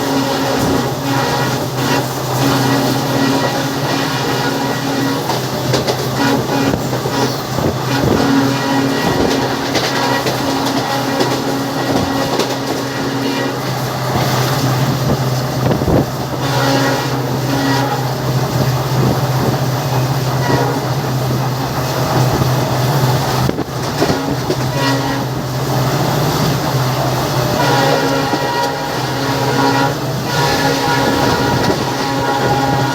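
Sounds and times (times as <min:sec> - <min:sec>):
diesel locomotive drone: 0:00.0 - 0:32.9
rail clatter: 0:00.0 - 0:32.9.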